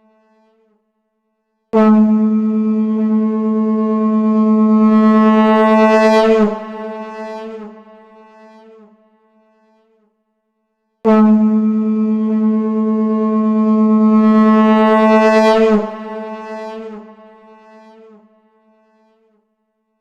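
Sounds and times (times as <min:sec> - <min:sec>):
conch shell blown: 0:01.8 - 0:10.0, 0:11.1 - 0:19.3.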